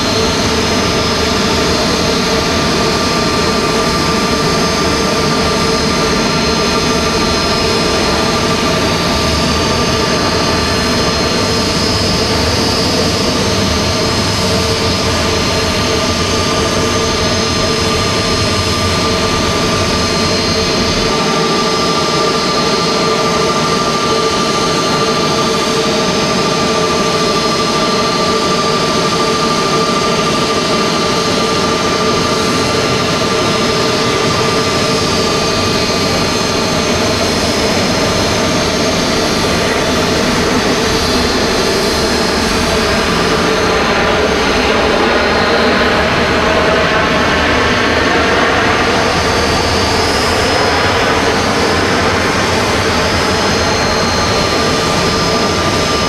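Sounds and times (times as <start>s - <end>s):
jet engine whine: 0.0s - 56.0s.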